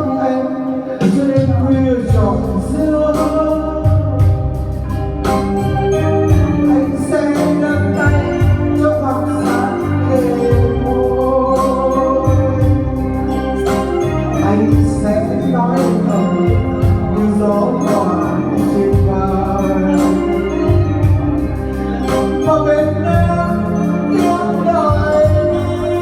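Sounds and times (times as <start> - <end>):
bass: 0.0 - 26.0
organ-like keyboard melody: 0.0 - 26.0
steady drum beat: 1.0 - 26.0.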